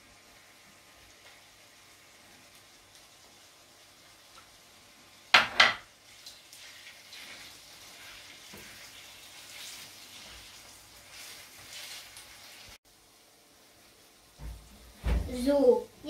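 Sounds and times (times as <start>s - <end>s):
vegetables sizzling in frying pan: 0.0s - 16.0s.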